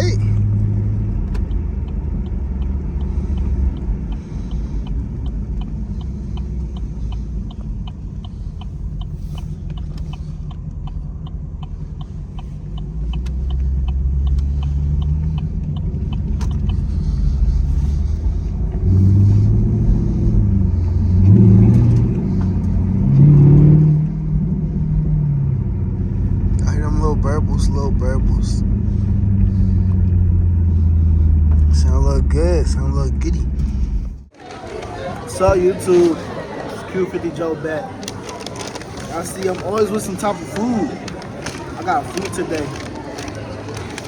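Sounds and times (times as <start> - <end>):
car engine idling and revving: 0.0 - 44.0
fast engine ticking: 0.0 - 44.0.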